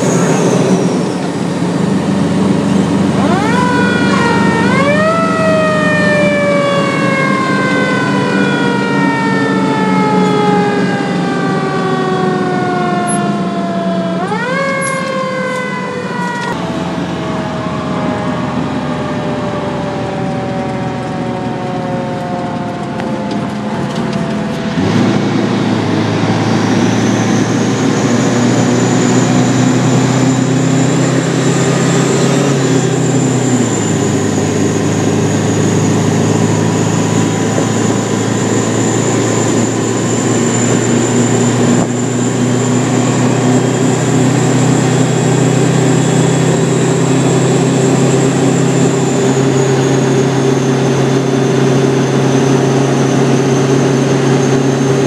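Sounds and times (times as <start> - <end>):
truck engine droning: 0.0 - 55.0.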